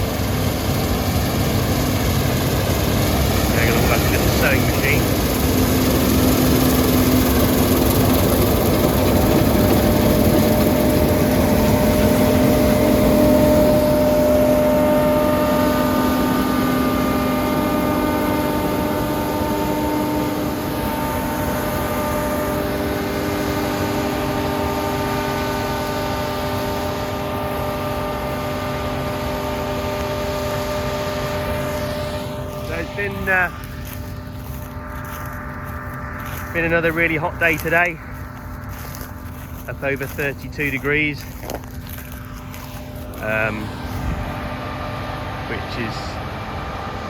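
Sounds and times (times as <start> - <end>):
combine harvester humming: 0.0 - 47.0
steady machine whining tones: 0.0 - 47.0.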